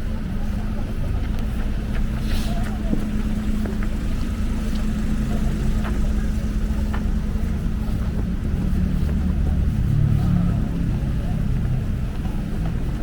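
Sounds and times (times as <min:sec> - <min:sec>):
engine hum: 0:00.0 - 0:13.0
road traffic rumble: 0:00.0 - 0:13.0.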